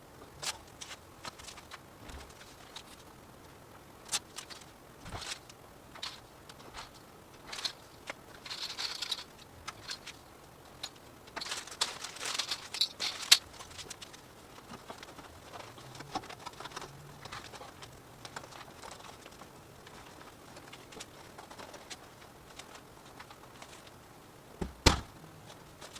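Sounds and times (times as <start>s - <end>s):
insulation panels rustling and crinkling: 0.0s - 25.9s.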